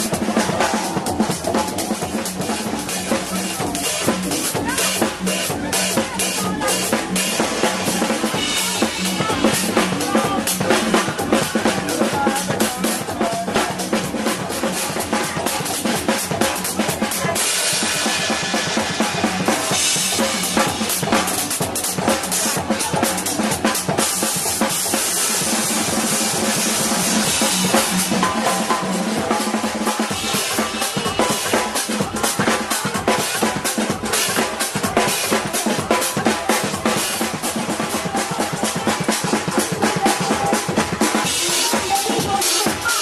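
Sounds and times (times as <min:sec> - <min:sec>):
club music with heavy bass drum: 0:00.0 - 0:43.0.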